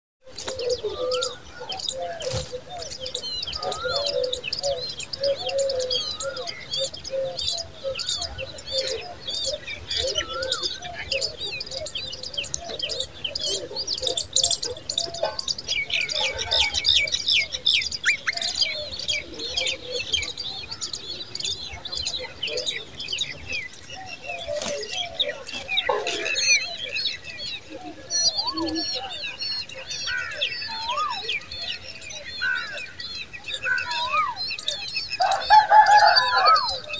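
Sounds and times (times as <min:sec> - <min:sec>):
wavering bird calls: 0:00.2 - 0:36.9
nestlings begging chirps: 0:00.3 - 0:36.9.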